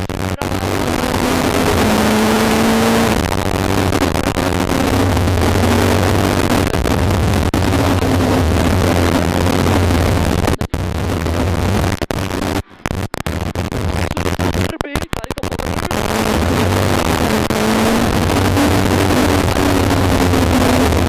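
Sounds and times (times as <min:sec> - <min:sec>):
rally car engine and road noise: 0:00.0 - 0:21.0.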